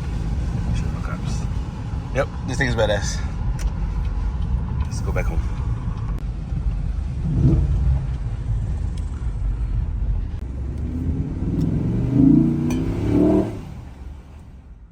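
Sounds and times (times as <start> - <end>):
car engine rumbling and revving: 0.0 - 14.9.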